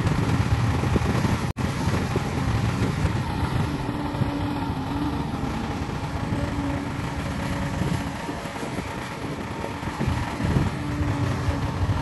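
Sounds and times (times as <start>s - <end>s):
heavy diesel engines rumbling: 0.0s - 12.0s.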